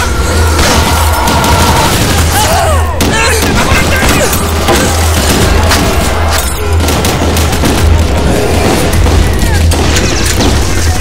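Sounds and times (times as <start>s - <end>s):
booming impacts: 0.0s - 11.0s
gunshots: 0.0s - 11.0s.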